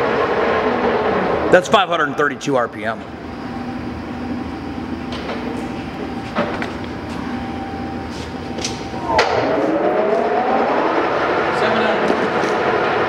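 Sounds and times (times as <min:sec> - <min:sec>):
lathe gear whine: 0:00.0 - 0:13.0.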